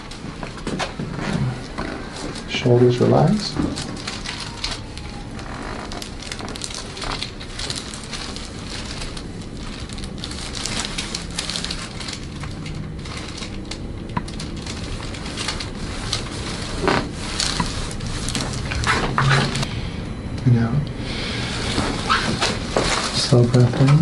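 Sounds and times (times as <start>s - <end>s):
crinkling and rustling: 0.0s - 19.7s, 21.5s - 24.0s.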